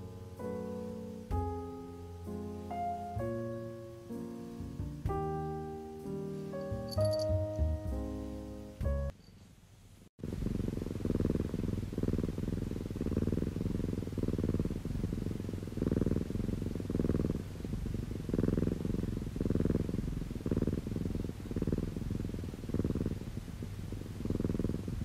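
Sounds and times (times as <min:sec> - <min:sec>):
cat purring: 0:00.0 - 0:09.4, 0:10.2 - 0:25.0.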